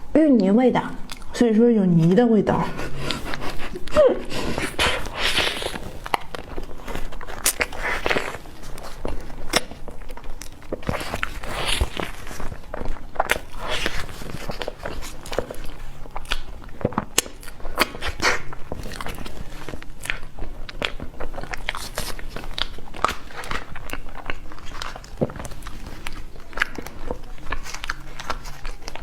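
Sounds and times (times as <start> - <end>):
person chewing cake: 0.0 - 1.4, 2.0 - 29.0.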